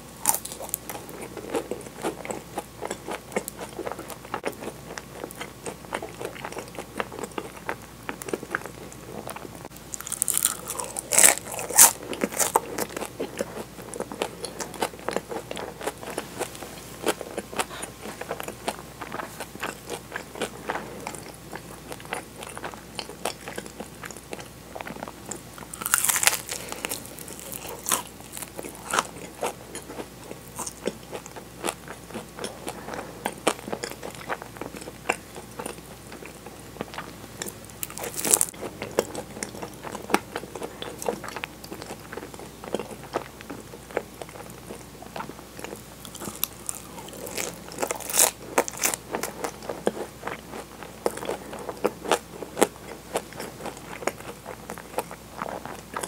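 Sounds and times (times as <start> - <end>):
crunchy chewing of pastry: 0.0 - 56.0.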